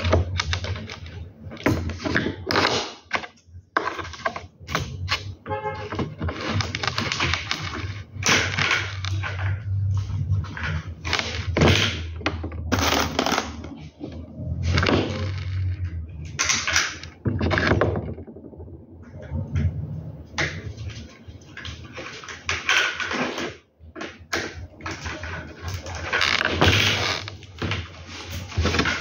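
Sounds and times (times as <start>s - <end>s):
plastic parts clicking and rattling: 0.0s - 19.7s, 20.4s - 29.0s.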